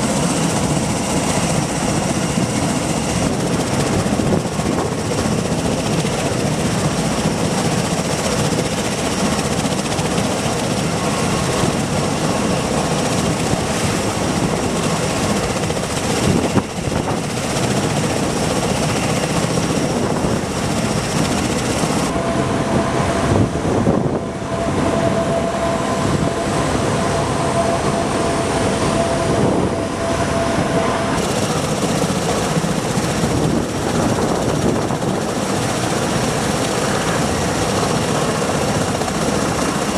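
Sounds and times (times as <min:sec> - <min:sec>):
aircraft rotors and turbine engines: 0:00.0 - 0:39.9
steady whine: 0:00.0 - 0:39.9.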